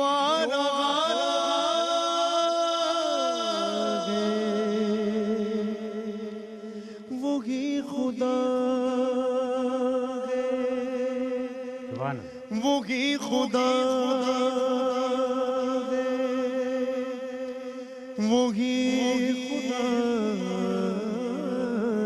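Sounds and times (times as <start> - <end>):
man singing devotional song: 0.0 - 22.0.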